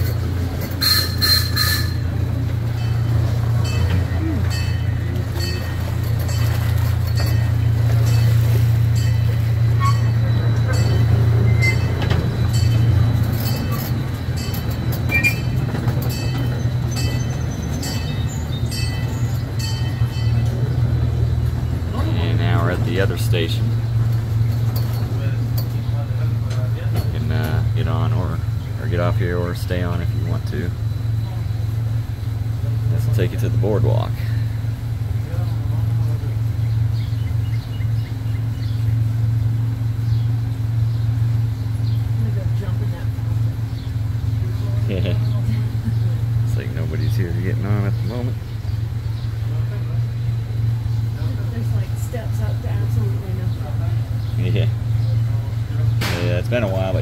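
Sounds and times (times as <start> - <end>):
train engine drone: 0.0 - 57.0.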